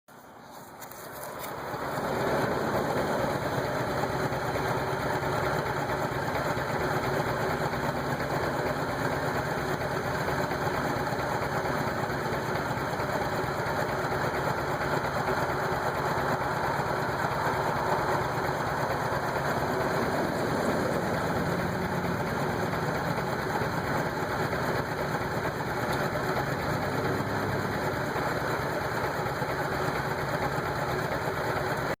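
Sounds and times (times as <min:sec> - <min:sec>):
car engine rough idle: 0:00.2 - 0:32.0.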